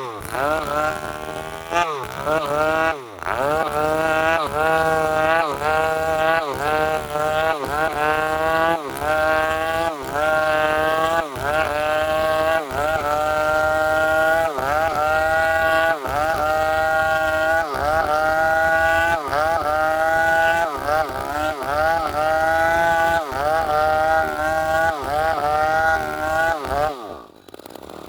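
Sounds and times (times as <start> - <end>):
chainsaw cutting timber: 0.0 - 28.0.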